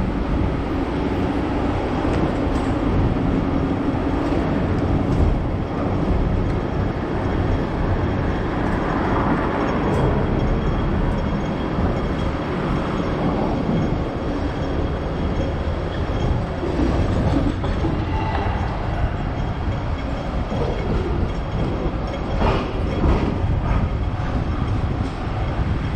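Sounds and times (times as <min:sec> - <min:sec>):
tram wheels rumbling on rails: 0:00.0 - 0:25.9.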